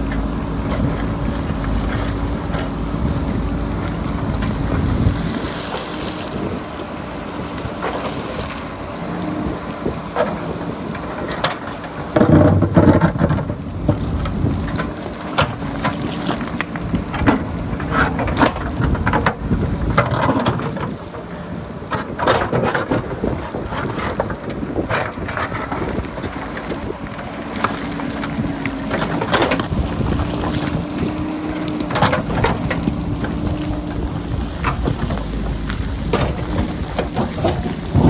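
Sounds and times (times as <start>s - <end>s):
bucket scraping rock: 0.0s - 38.0s
diesel engine under load: 0.0s - 38.0s
wind buffeting microphone: 0.0s - 38.0s.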